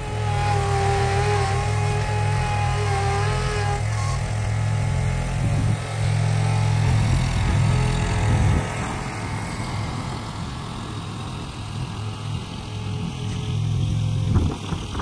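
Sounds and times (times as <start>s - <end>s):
lawn tractor engine running: 0.0s - 15.0s.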